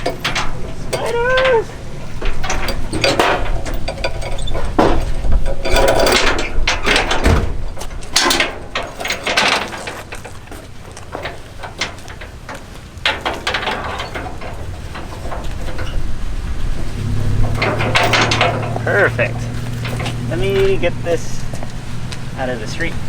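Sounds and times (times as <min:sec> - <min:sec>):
metal clanks and rattles: 0:00.0 - 0:23.0.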